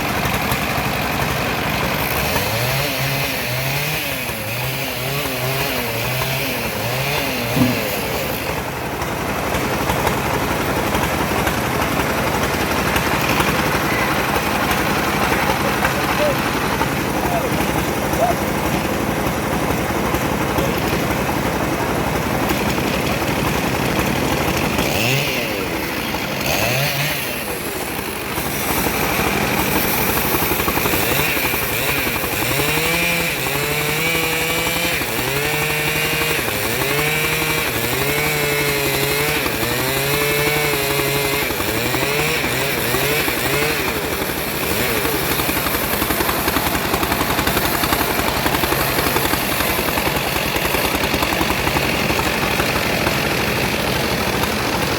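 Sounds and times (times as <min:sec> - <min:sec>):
chainsaw running: 0:00.0 - 0:54.9.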